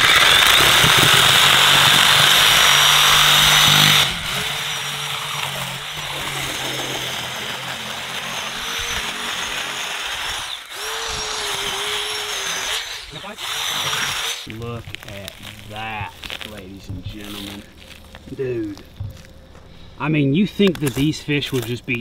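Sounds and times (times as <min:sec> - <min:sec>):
jigsaw cutting through scaly skin: 0:00.0 - 0:18.0, 0:20.7 - 0:21.8.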